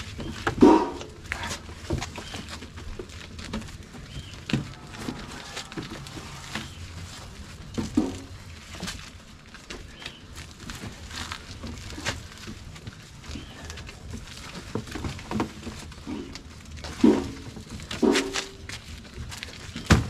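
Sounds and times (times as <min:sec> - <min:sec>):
corn ears knocking and rustling: 0:00.0 - 0:20.0.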